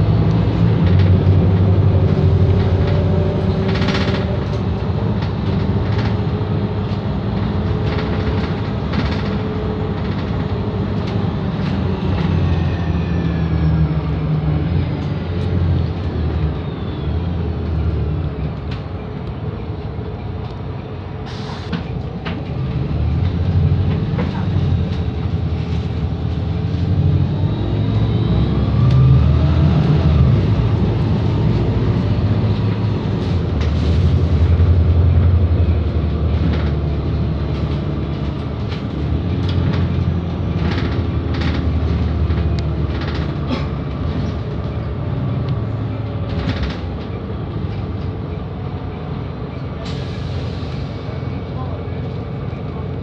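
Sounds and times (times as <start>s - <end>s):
bus diesel engine: 0.0s - 53.0s
road noise: 0.0s - 53.0s.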